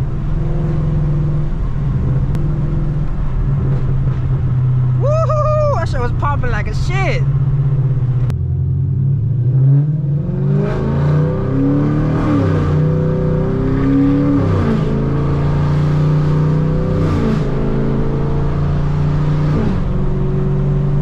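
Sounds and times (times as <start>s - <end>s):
car engine accelerating through gears: 0.0s - 5.8s, 7.3s - 21.0s.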